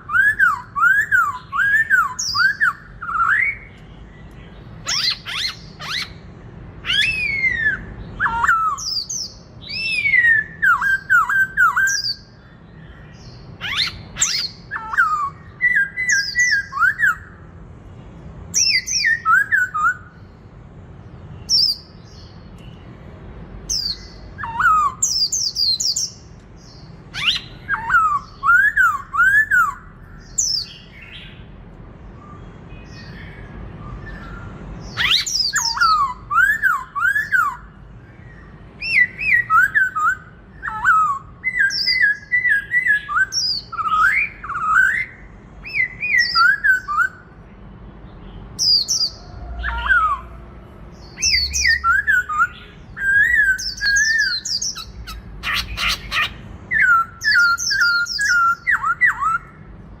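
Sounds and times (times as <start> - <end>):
bird singing whistled notes: 0.0 - 17.5, 18.5 - 20.4, 21.3 - 22.9, 23.7 - 31.5, 32.1 - 47.4, 48.2 - 50.4, 51.0 - 59.7.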